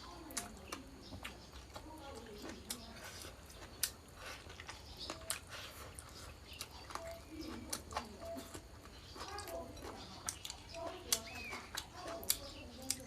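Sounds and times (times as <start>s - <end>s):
faint chirps: 0.0s - 13.0s
person chewing crunchy food: 0.0s - 13.0s.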